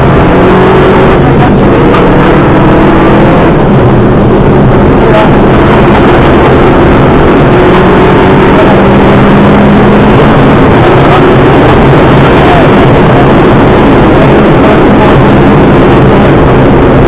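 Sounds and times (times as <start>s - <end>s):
car engine at high revs: 0.0s - 17.0s
tyre and road noise: 0.0s - 17.0s.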